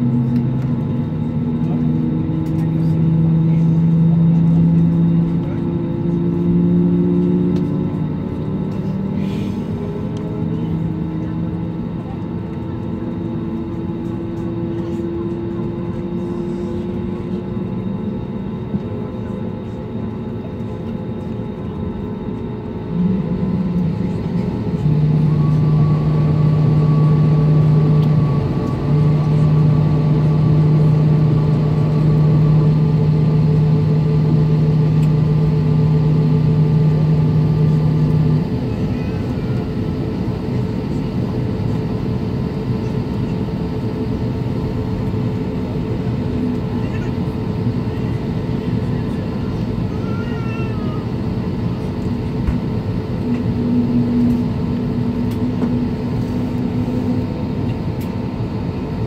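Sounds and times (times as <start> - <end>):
loud low hum: 0.0 - 50.0, 50.6 - 59.0
aircraft cabin noise: 0.0 - 59.0.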